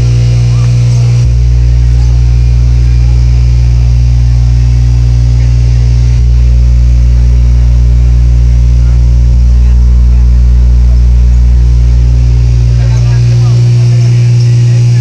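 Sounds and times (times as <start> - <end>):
deep bass tone from subwoofers: 0.0 - 15.0.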